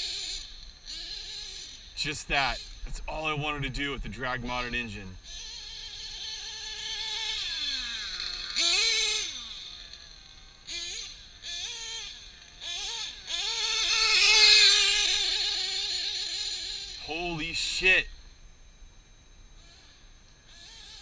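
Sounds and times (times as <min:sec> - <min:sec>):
nitro engine revving: 0:00.0 - 0:18.0.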